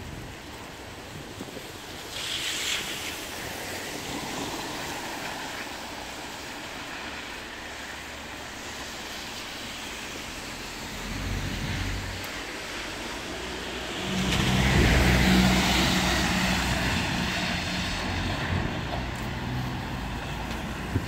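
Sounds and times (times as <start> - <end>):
tyres hissing on wet road: 0.0 - 21.0
wet street traffic noise: 0.0 - 21.0.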